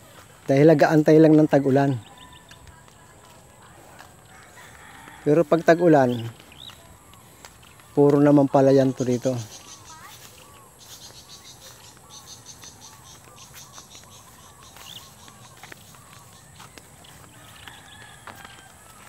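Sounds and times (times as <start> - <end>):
footsteps on grass: 0.0 - 19.0.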